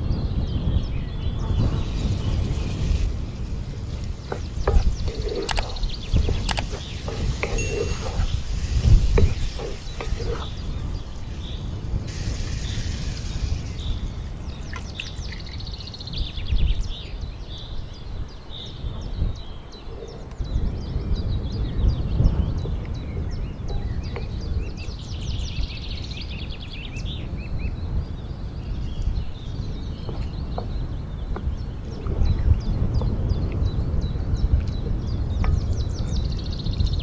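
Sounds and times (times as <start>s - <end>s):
birds chirping and trilling: 0.0s - 37.0s
steady low rumble: 0.0s - 37.0s.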